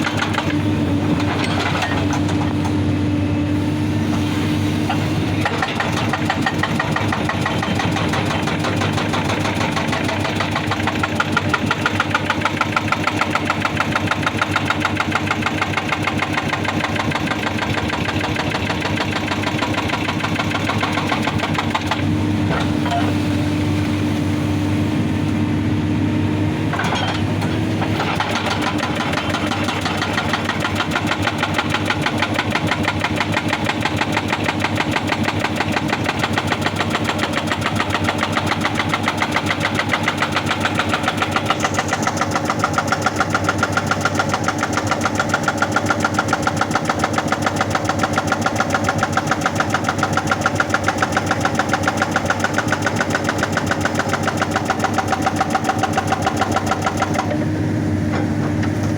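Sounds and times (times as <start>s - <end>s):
hydraulic breaker hammering rock: 0.0s - 2.8s, 4.9s - 23.2s, 26.7s - 58.9s
diesel engine running: 0.0s - 58.9s.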